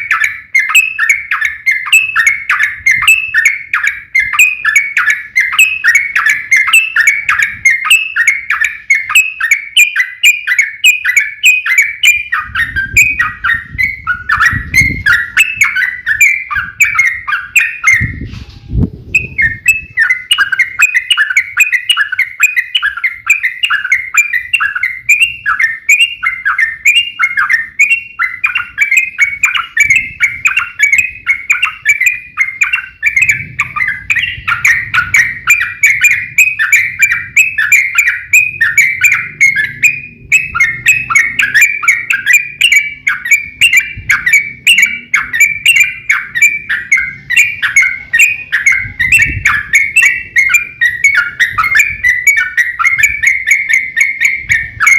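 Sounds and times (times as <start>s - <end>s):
bird chattering song: 0.0s - 54.9s.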